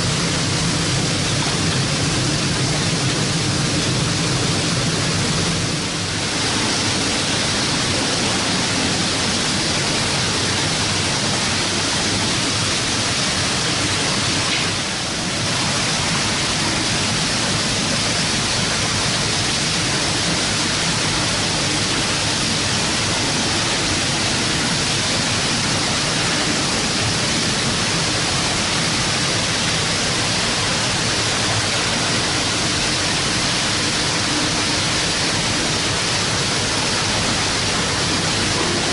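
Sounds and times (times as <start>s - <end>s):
processing machinery running: 0.0s - 38.9s
water pouring and splashing: 0.0s - 38.9s.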